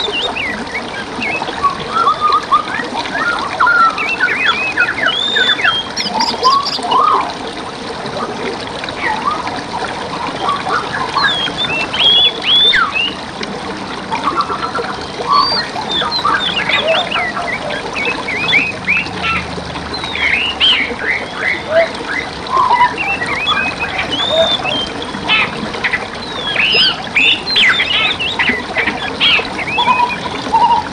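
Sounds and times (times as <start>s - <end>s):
songbirds singing and calling: 0.0s - 7.3s, 10.4s - 13.2s, 14.2s - 30.9s
forest stream trickling: 0.0s - 30.9s.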